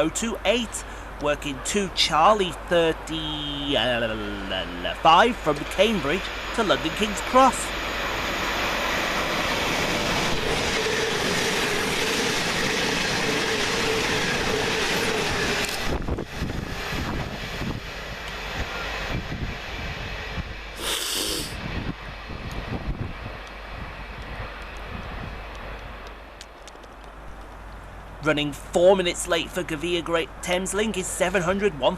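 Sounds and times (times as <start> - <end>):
electric train passing at speed: 0.0 - 20.9, 21.5 - 28.2.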